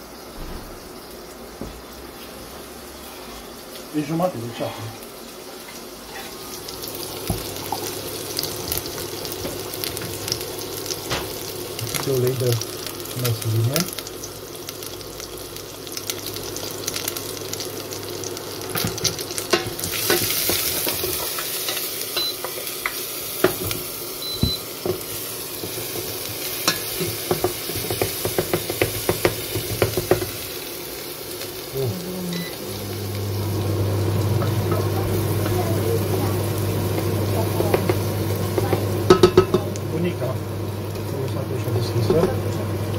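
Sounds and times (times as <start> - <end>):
onion sizzling in oil: 0.0 - 42.9.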